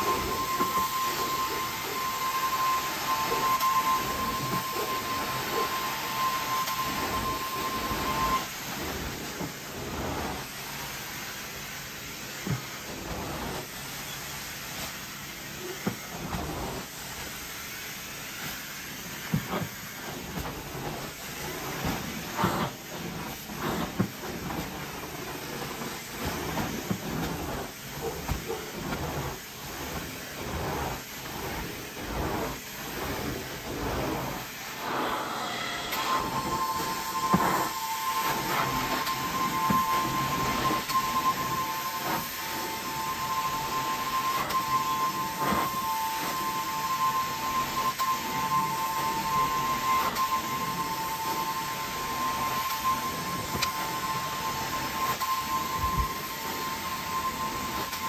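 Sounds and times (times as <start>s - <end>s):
spray and vacuum suction hiss: 0.0s - 58.0s.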